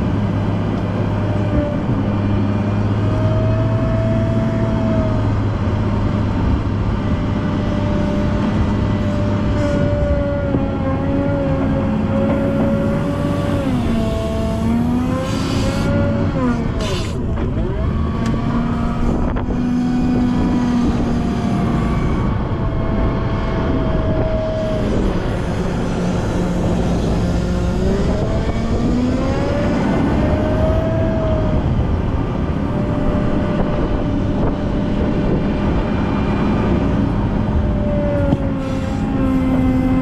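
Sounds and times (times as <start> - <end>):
diesel engine revving: 0.0 - 40.0
high engine whine: 0.0 - 40.0.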